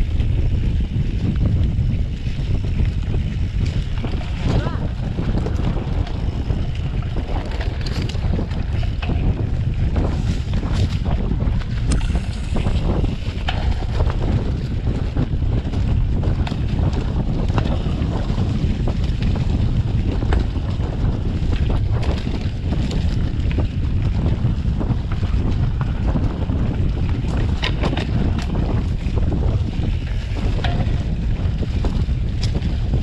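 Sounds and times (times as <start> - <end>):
bike clicks and rattles: 0.0 - 33.0
bike rumble on dirt trail: 0.0 - 33.0
wind buffeting microphone: 0.0 - 33.0.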